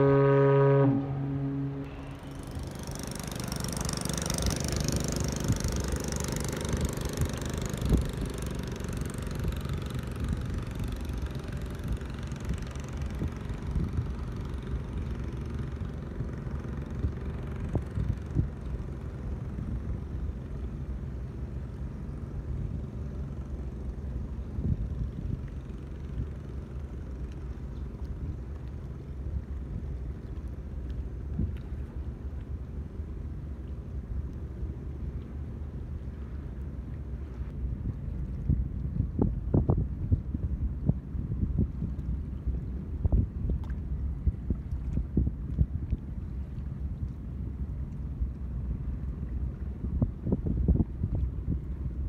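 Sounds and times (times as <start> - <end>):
boat engine running: 0.0 - 52.0
wind rumbling on microphone: 0.0 - 52.0.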